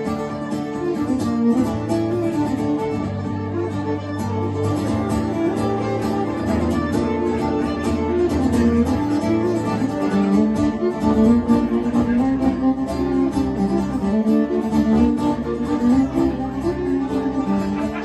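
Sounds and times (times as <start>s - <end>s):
acoustic guitar strumming: 0.0s - 18.0s
fiddle playing a tune: 0.0s - 18.0s.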